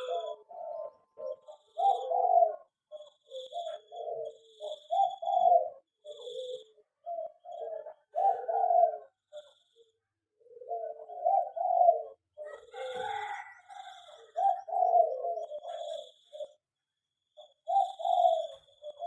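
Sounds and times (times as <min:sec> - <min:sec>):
doves cooing: 0:00.0 - 0:16.7, 0:17.4 - 0:19.0.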